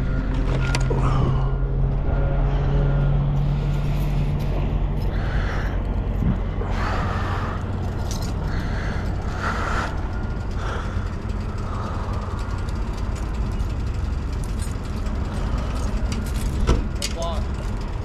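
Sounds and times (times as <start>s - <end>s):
motorcycle engine low rumble: 0.0s - 18.0s.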